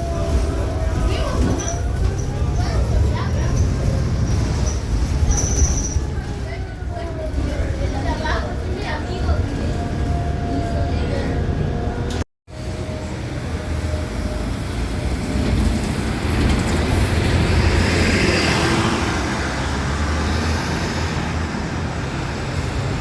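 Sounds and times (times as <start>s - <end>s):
bus pulling away: 0.0s - 23.0s
low drivetrain rumble: 0.0s - 23.0s.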